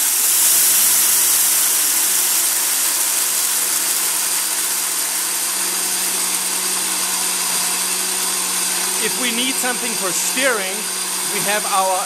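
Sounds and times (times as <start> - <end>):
blender motor humming: 0.0 - 12.0.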